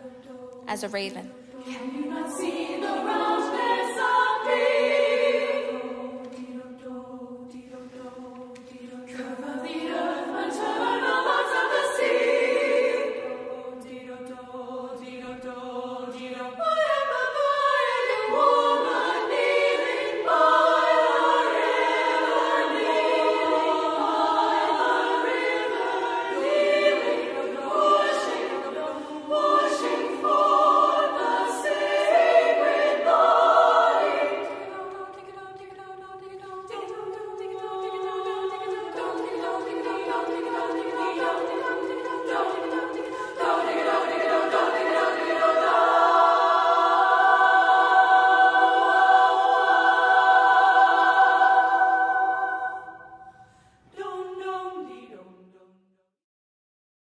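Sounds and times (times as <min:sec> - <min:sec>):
women's choir singing: 0:00.0 - 0:55.9.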